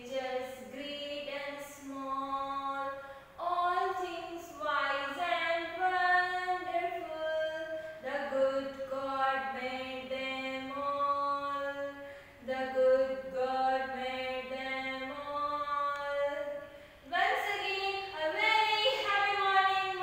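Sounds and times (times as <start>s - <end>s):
woman singing unaccompanied: 0.0s - 20.0s.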